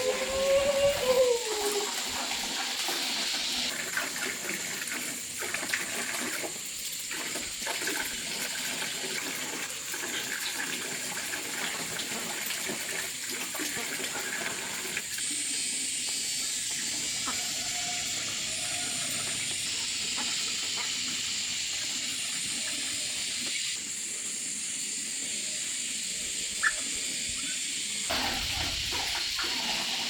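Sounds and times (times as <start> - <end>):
water spraying hiss: 0.0 - 30.0.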